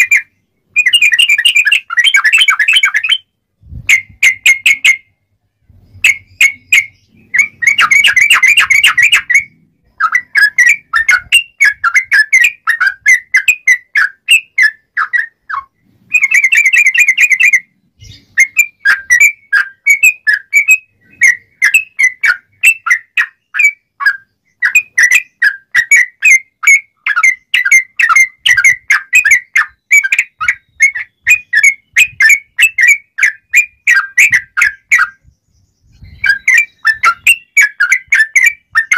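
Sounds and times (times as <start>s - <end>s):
bird chattering: 0.0s - 38.9s
bird singing whistled notes: 0.0s - 38.9s.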